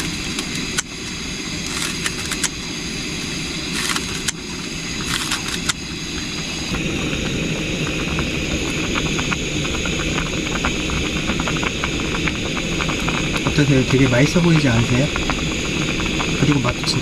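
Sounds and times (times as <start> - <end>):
gas burner rushing: 0.0 - 17.0
water bubbling and spattering: 0.0 - 17.0.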